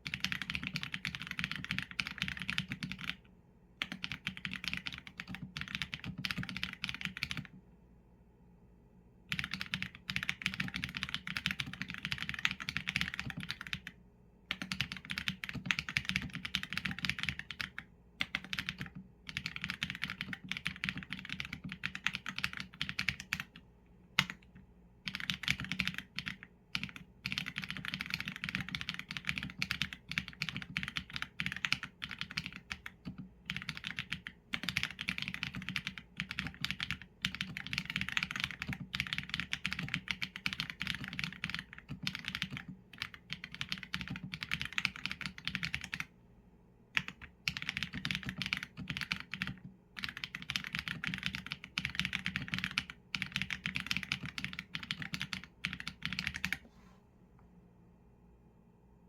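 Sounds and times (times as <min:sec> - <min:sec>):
typing on mechanical keyboard: 0:00.0 - 0:03.2, 0:03.8 - 0:07.6, 0:09.3 - 0:23.6, 0:24.2 - 0:46.1, 0:47.0 - 0:56.6.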